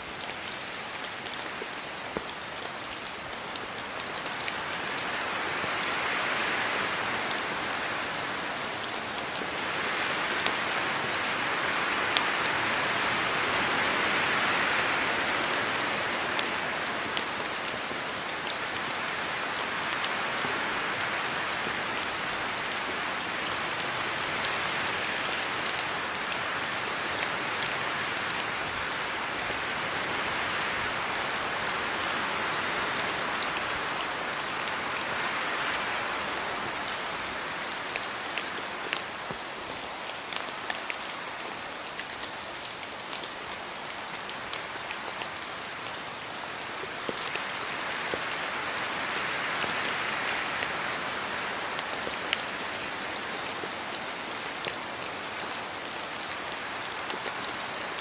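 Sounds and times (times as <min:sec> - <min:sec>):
rain falling on a yard: 0:00.0 - 0:58.0.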